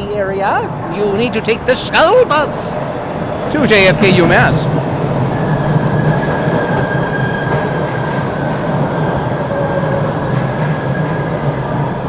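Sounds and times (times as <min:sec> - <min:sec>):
subway train rumbling: 0:00.0 - 0:12.0
subway wheels squealing: 0:00.0 - 0:12.0.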